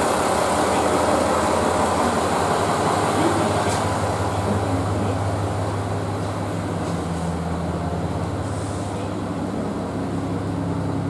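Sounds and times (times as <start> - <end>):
diesel railcar engine idling: 0.0 - 11.0.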